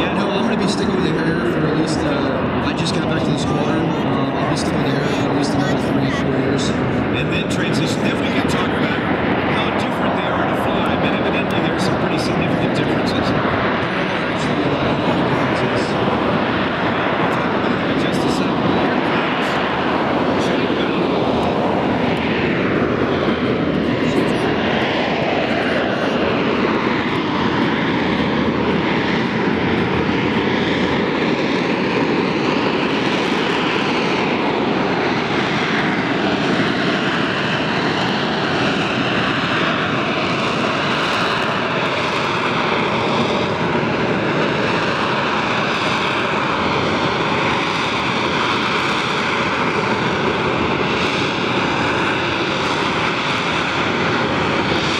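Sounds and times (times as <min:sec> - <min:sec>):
jet engine roaring and whining: 0:00.0 - 0:54.9.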